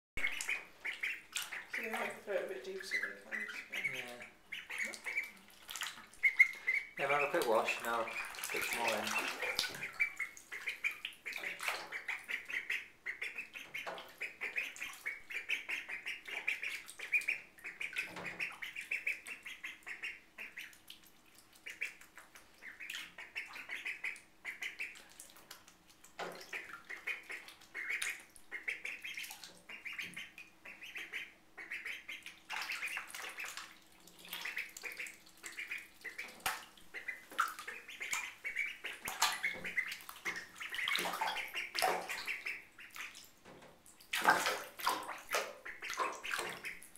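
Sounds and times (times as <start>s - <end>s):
ducklings peeping: 0.2s - 43.2s, 44.0s - 46.9s
light water splashing: 0.2s - 46.9s.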